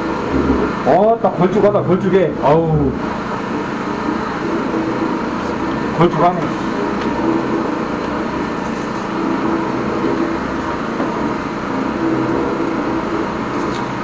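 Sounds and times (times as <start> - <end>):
drain jetter droning: 0.0 - 14.0.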